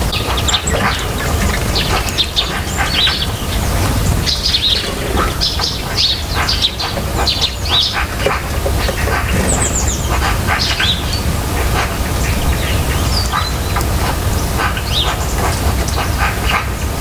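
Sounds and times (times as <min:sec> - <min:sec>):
small songbirds chirping: 0:00.0 - 0:17.0
steady low rumble: 0:00.0 - 0:17.0.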